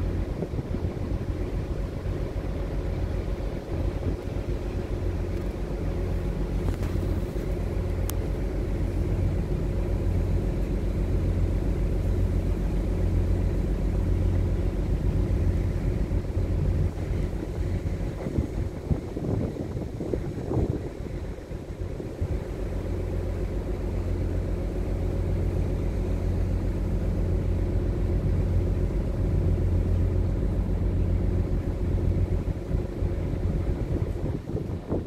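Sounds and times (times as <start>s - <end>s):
ship engine droning: 0.0s - 35.0s.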